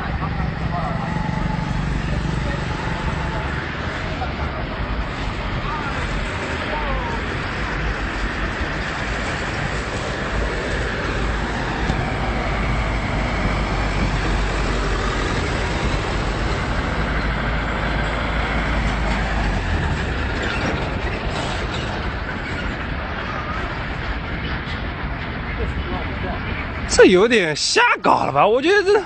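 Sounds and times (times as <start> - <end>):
traffic hiss: 0.0 - 24.0
traffic rumble: 0.0 - 29.0.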